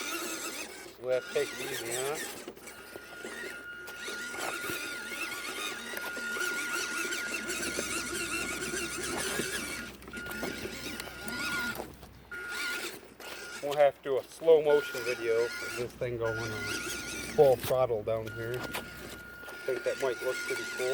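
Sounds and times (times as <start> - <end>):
toy truck electric motor whine: 0.0 - 20.9.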